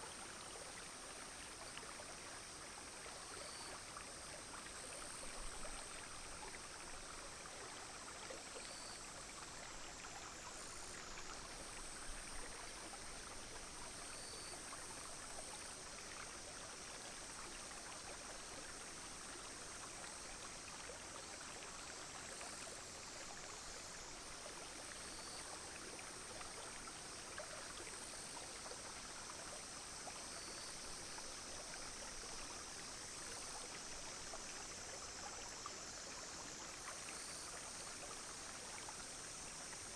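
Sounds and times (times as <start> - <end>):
faint short insect call: 0.0 - 39.9
stream flowing and trickling: 0.0 - 39.9.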